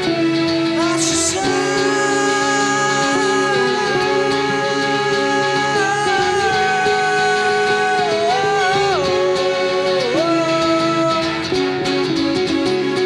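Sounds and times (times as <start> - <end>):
guitar accompaniment: 0.0 - 13.0
person singing long notes: 0.0 - 13.0.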